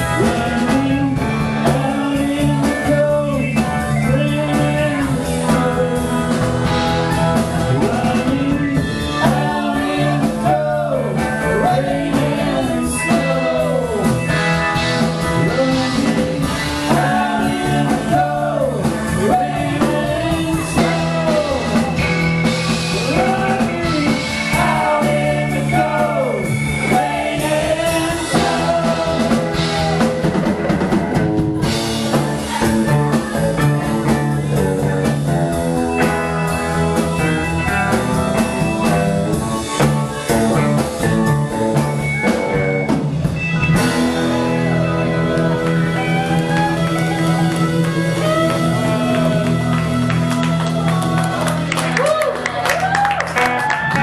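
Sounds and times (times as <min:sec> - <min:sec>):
rock band playing blues jam: 0:00.0 - 0:54.0.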